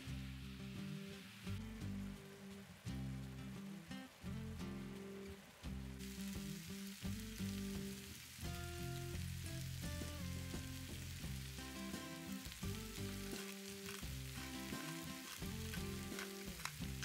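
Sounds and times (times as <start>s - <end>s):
mushrooms and onions sizzling: 0.0s - 17.0s
soft instrumental music: 0.0s - 17.0s.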